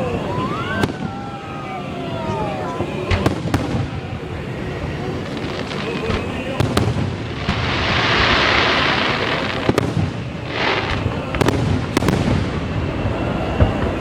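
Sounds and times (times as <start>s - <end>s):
fireworks hissing: 0.0s - 14.0s.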